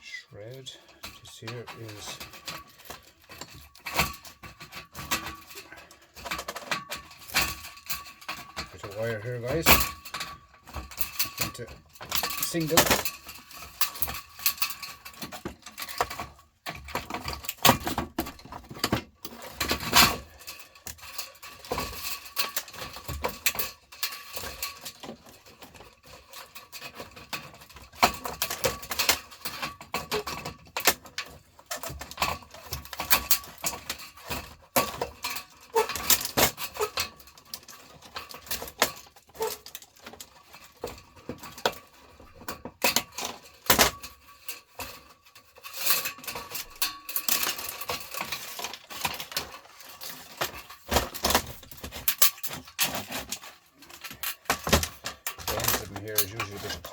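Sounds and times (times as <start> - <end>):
metal parts and tools clinking: 0.4 - 56.9.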